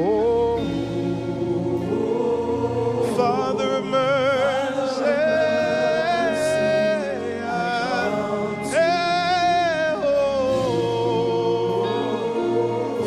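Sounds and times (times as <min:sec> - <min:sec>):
live worship band music: 0:00.0 - 0:13.0.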